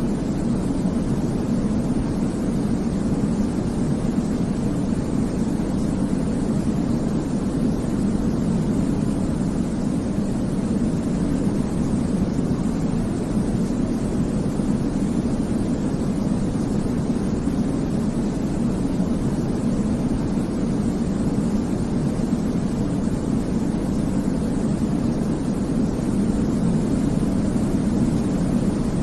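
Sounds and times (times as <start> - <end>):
deep white noise: 0.0 - 29.0.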